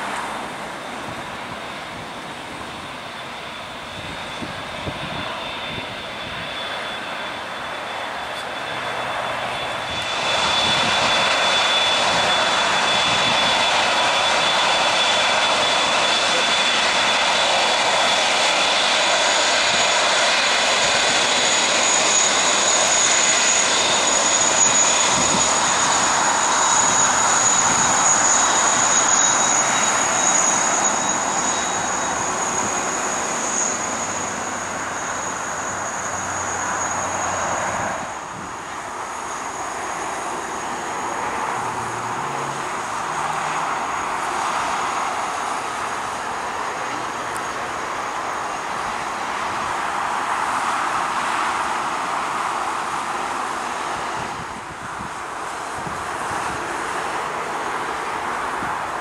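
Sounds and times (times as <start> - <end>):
high-pitched engine whine: 0.0 - 59.0
jet engines roaring: 0.0 - 59.0.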